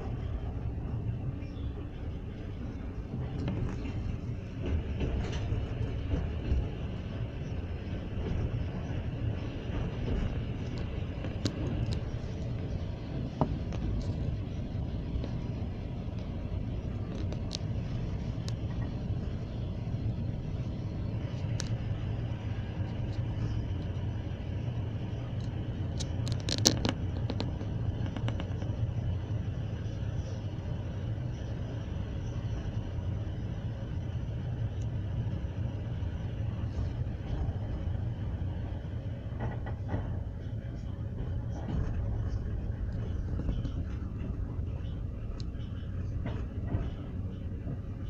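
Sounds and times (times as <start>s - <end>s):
train carriage rumbling: 0.0s - 48.0s.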